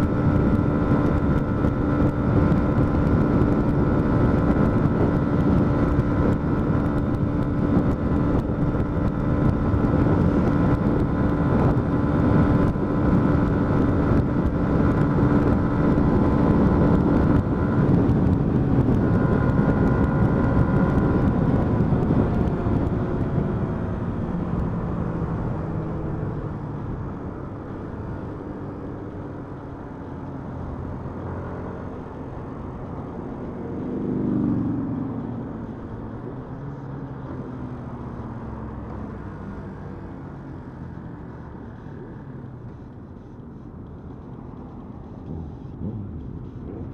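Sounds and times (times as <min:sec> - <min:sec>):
motorcycle engine cruising: 0:00.0 - 0:46.9
rushing wind noise: 0:00.0 - 0:46.9.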